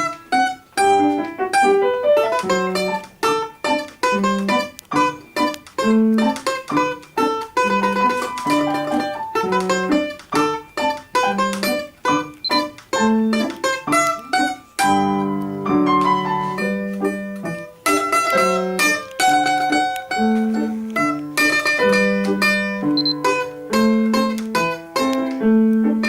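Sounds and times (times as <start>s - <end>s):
domra plucked melody: 0.0s - 26.0s
piano: 0.0s - 26.0s.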